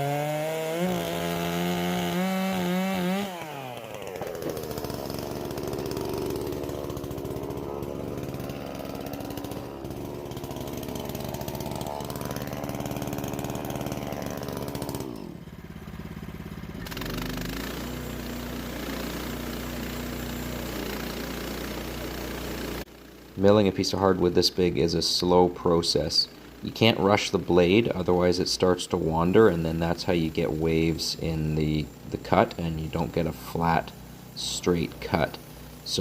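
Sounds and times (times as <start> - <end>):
saw blade cutting log: 0.0 - 15.5, 16.8 - 22.8, 25.2 - 36.0
sawmill engine running under load: 0.0 - 36.0.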